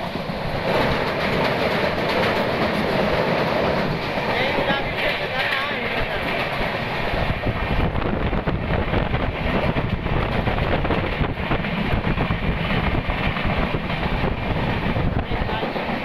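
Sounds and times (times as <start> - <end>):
electric train running on track: 0.0 - 16.0
wind buffeting microphone: 0.0 - 16.0.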